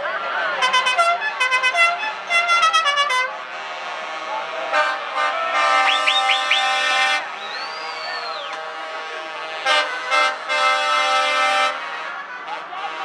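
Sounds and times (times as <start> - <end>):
truck air horn blasts: 0.6 - 13.0.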